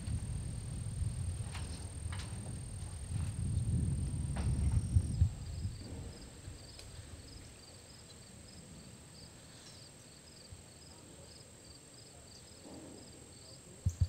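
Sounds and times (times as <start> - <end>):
insect chirping: 0.1 - 14.0.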